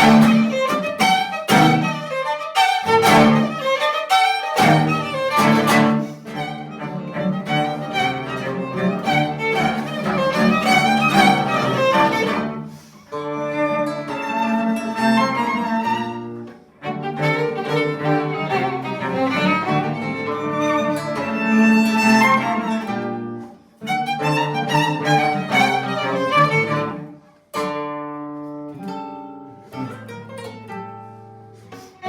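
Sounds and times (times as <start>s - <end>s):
violin: 0.0s - 28.9s
cello: 0.0s - 32.0s.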